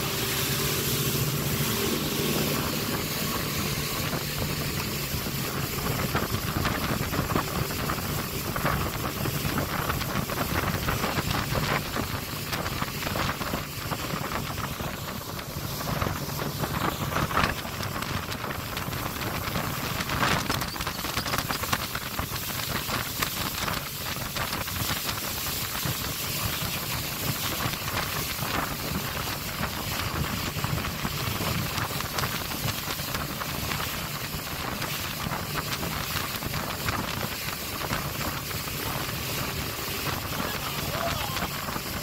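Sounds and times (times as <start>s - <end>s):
outboard motor drone: 0.0s - 42.0s
water rushing past hull: 0.0s - 42.0s
wind on microphone: 0.0s - 42.0s.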